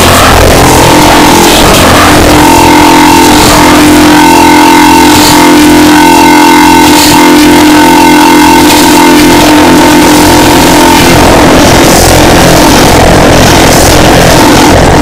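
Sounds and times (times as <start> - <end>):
distorted electronic noise: 0.0 - 15.0
steady buzzing tone: 0.0 - 15.0.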